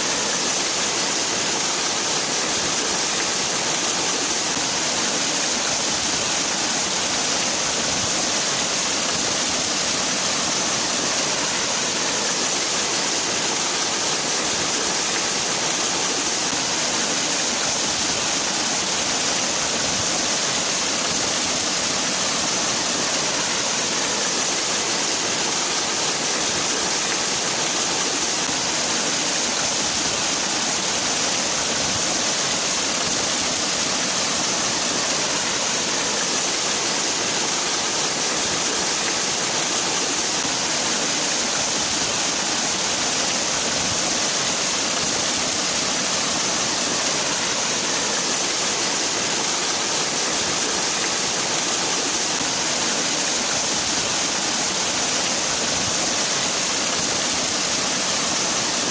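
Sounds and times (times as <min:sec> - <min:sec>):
waterfall splashing: 0:00.0 - 0:58.9.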